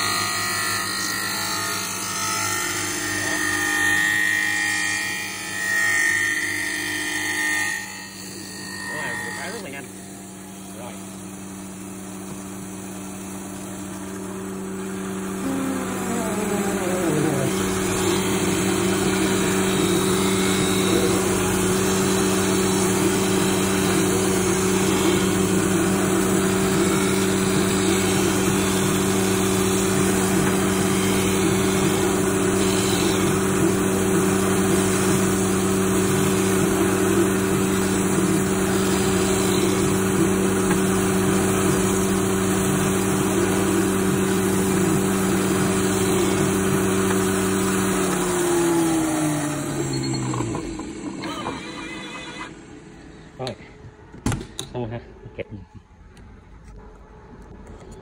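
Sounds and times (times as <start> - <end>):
grinding wheel motor hum: 0.0 - 5.6, 8.0 - 53.6.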